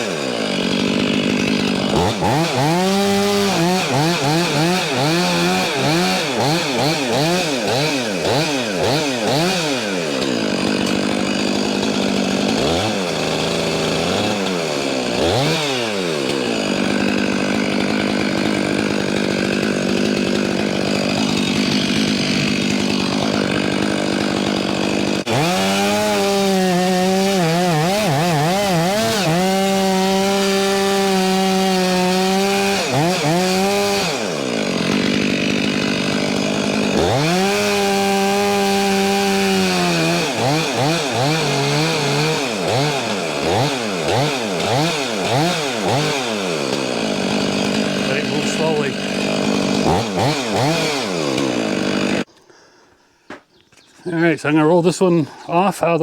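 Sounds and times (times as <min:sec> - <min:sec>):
chainsaw revving and cutting: 0:00.0 - 0:52.3.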